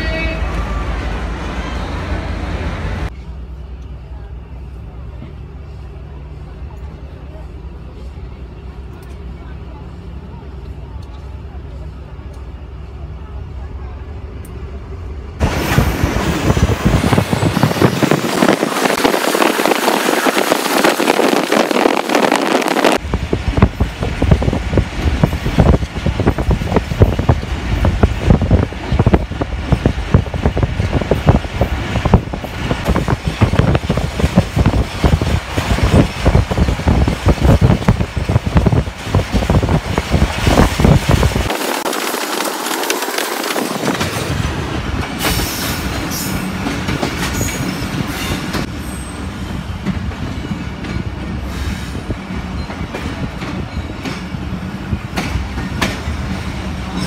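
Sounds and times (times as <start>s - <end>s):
train carriage rattling on rails: 0.0s - 57.0s.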